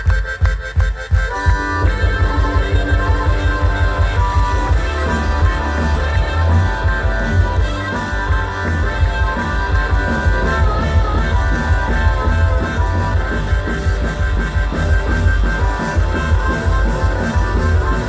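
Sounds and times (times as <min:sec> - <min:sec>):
country-rock band playing: 0:00.0 - 0:18.0
harmonica solo wailing: 0:00.0 - 0:18.0.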